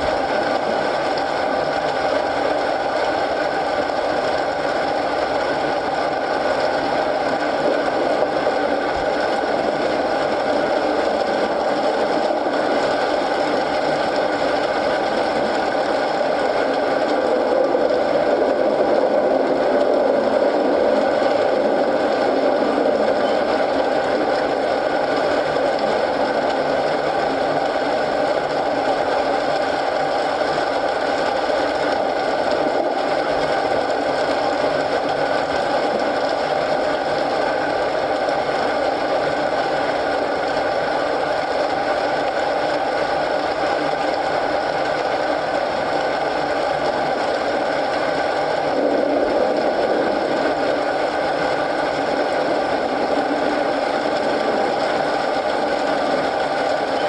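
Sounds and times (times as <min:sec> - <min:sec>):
rain: 0:00.0 - 0:57.0.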